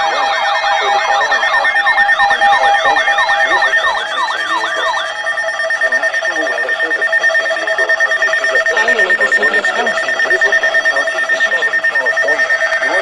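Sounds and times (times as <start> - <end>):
electronic siren yelping: 0.0 - 13.0.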